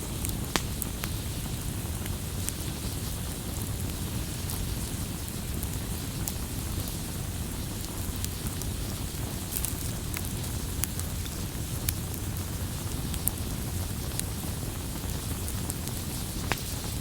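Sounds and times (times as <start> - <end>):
burning wood crackles and pops: 0.0 - 17.0
campfire rumbling: 0.0 - 17.0.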